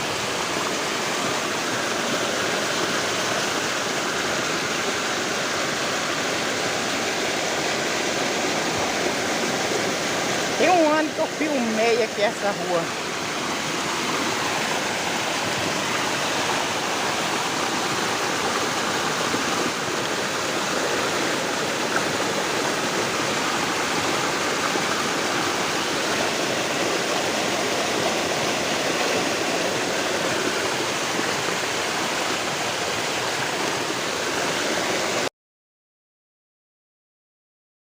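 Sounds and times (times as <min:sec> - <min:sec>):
heavy rain: 0:00.0 - 0:35.3
runoff water rushing: 0:00.0 - 0:35.3.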